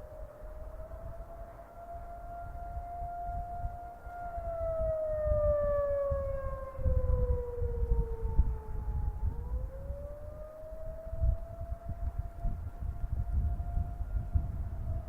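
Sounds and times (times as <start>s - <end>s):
gusty low rumble: 0.0s - 15.0s
warning siren wailing: 0.0s - 15.0s.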